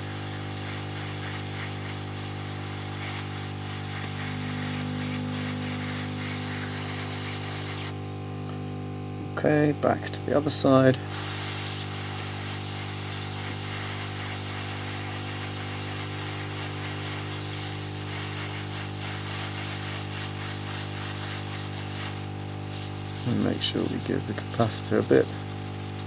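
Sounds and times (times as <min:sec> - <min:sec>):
hiss of air from nozzle: 0:00.0 - 0:08.0, 0:11.0 - 0:26.0
fan motor hum: 0:00.0 - 0:26.0.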